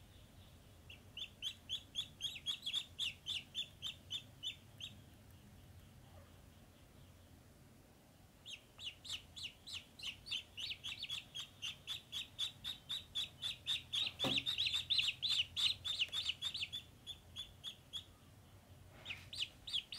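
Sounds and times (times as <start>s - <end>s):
ducklings peeping: 0.0s - 7.5s, 8.3s - 19.9s.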